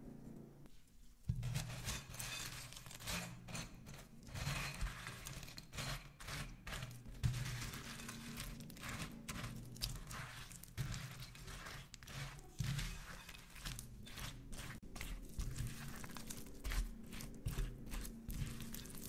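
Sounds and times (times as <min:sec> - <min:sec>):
spatula scraping glass bowl: 0:01.4 - 0:19.0.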